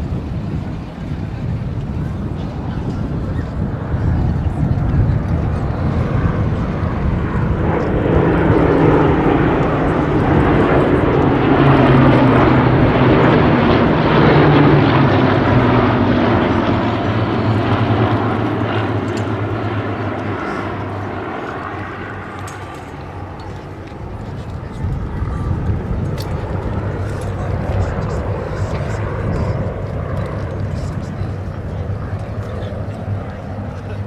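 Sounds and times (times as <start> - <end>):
propeller planes droning overhead: 0.0 - 34.0.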